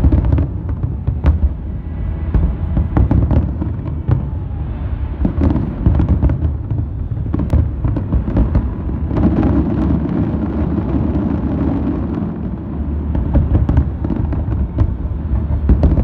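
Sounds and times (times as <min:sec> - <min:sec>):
fireworks booming and cracking: 0:00.0 - 0:16.0.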